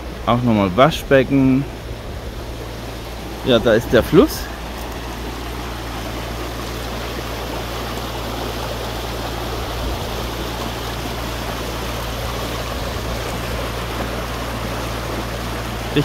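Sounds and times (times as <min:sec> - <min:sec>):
brook rushing over stones: 0:00.0 - 0:16.0.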